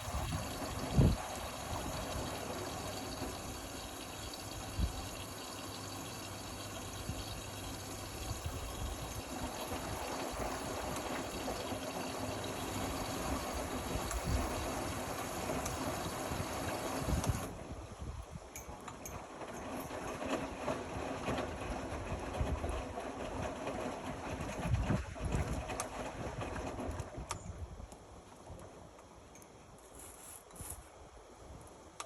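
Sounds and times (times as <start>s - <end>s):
water rushing through washing machine: 0.0s - 17.8s, 19.0s - 27.3s.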